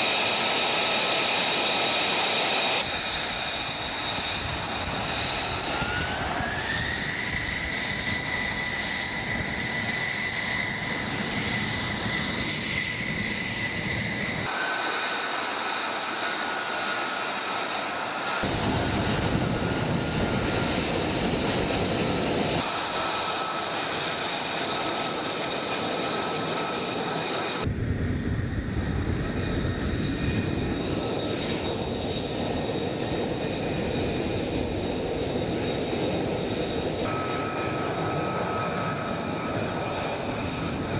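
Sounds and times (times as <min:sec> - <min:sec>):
jet engine whining: 0:00.0 - 0:40.9.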